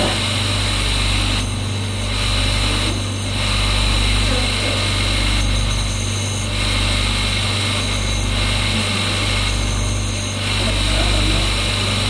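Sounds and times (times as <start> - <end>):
grinding wheel motor humming: 0.0 - 12.0.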